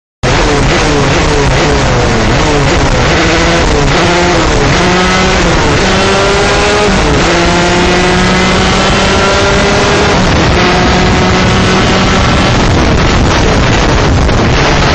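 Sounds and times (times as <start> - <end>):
kart engine at full throttle: 0.2 - 14.9.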